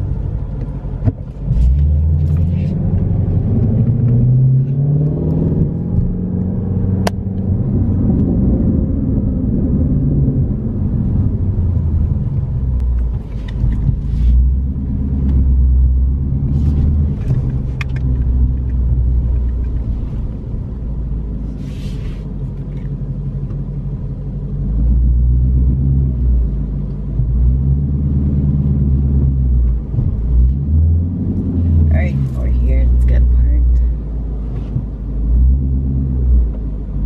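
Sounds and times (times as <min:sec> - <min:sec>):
car engine revving while driving: 0:00.0 - 0:37.0.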